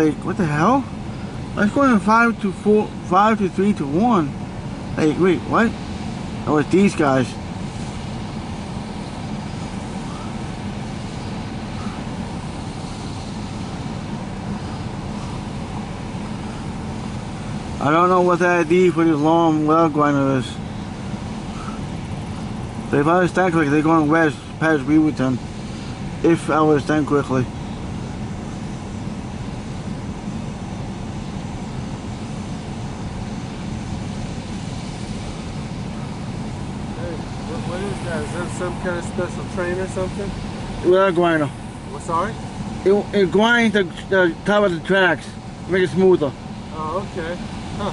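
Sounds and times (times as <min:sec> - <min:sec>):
hiss: 0:00.0 - 0:47.9
rail grinder low rumble: 0:00.0 - 0:47.9.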